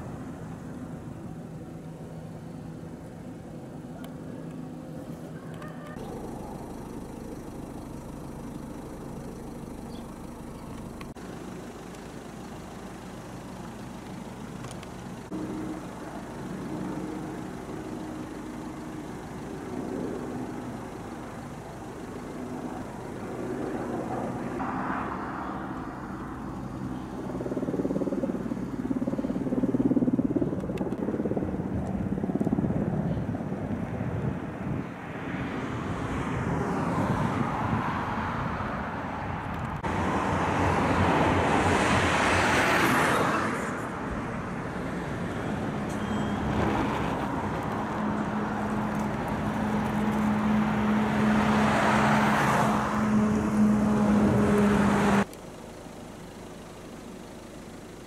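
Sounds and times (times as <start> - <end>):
helicopter rotor and turbine: 0.0 - 58.0.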